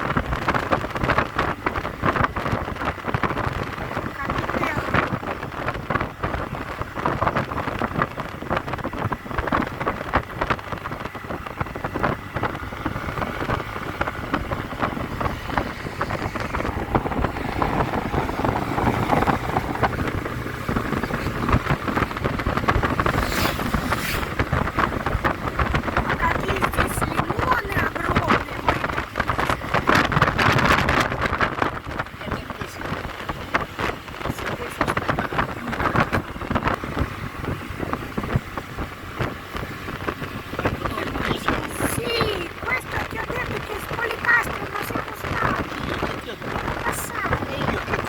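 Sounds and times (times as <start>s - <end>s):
road noise: 0.0s - 48.0s
scooter engine: 0.0s - 48.0s
wind buffeting microphone: 0.0s - 48.0s.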